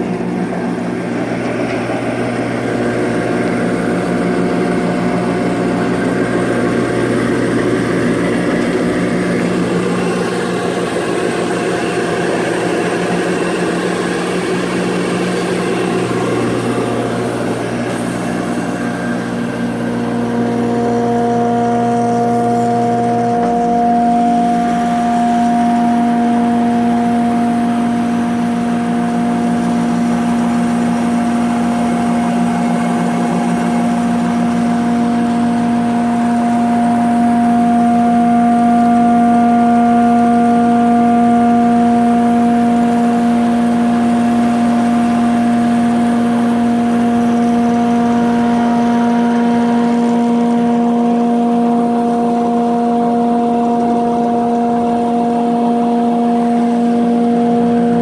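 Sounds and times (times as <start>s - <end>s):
planer motor humming: 0.0s - 58.0s.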